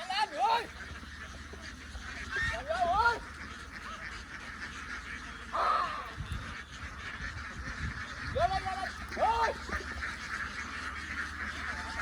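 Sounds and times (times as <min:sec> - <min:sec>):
ducks calling: 0:00.0 - 0:12.0
harsh duck quack: 0:00.6 - 0:12.0.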